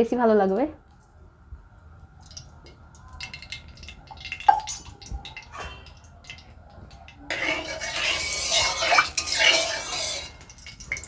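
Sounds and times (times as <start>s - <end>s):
oil trickling and dripping: 1.9s - 11.0s.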